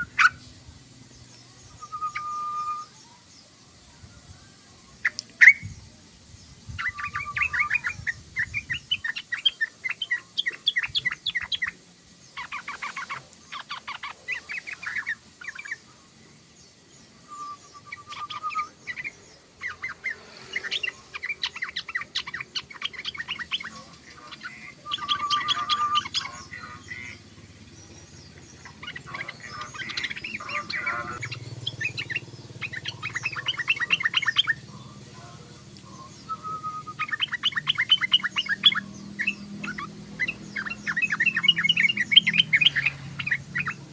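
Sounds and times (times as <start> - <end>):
bird chattering in fast bursts: 0.0 - 0.5, 6.7 - 15.9, 17.6 - 35.7, 36.3 - 43.9.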